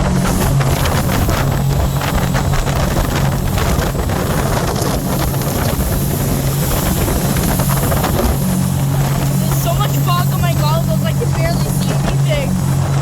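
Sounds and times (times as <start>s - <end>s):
boat engine running: 0.0s - 13.0s
rushing water: 0.0s - 13.0s
wind buffeting microphone: 0.0s - 13.0s.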